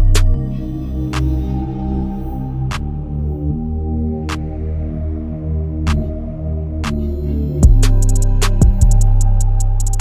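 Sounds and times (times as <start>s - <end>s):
heavy deep bass drop: 0.0s - 10.0s
sustained synth chords: 0.0s - 10.0s.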